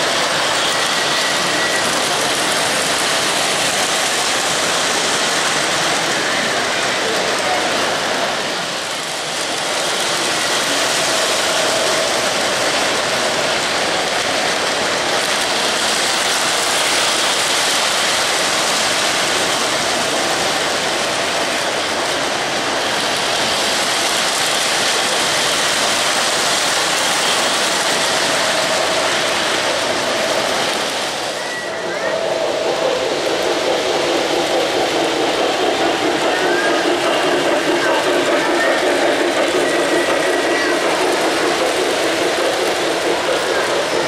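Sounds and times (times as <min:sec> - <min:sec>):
metal wheels clattering on rails: 0:00.0 - 0:44.0.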